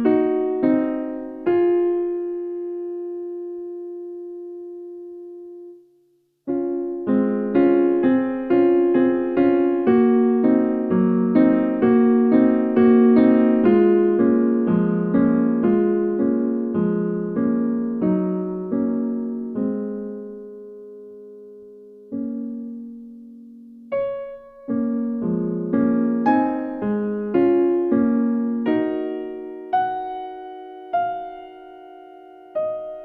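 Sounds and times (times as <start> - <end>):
solo piano music: 0.0 - 33.0.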